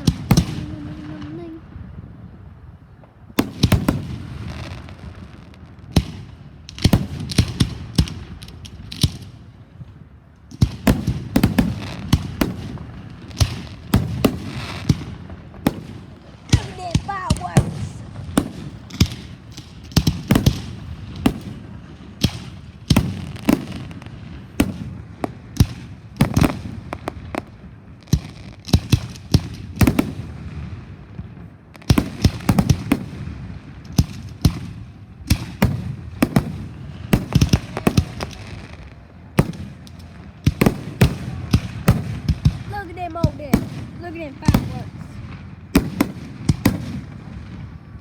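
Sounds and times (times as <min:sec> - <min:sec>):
fireworks bangs and cracks: 0:00.0 - 0:48.0.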